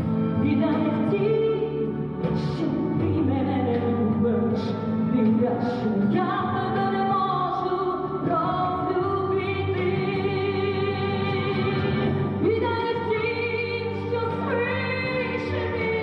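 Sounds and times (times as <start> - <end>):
instrumental backing music: 0.0 - 16.0
person singing: 0.0 - 16.0.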